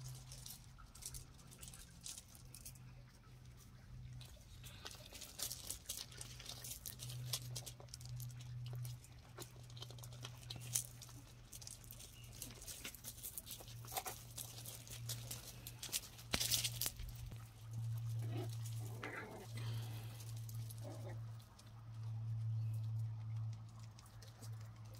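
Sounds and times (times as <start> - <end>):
puppies' paws on gravel: 0.0 - 24.9
steady low hum: 0.0 - 24.9.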